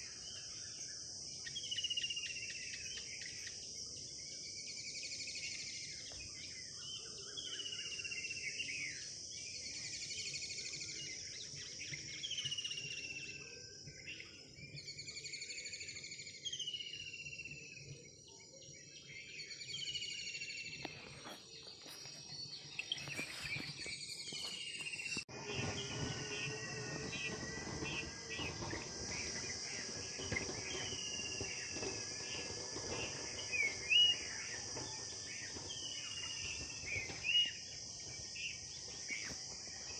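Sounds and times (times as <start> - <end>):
bird chirping call: 0.0 - 39.9
crickets chirring: 0.0 - 39.9.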